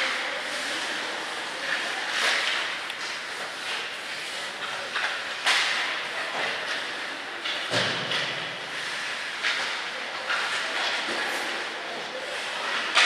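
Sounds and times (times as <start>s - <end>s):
hockey sticks clacking on puck: 0.0s - 13.0s.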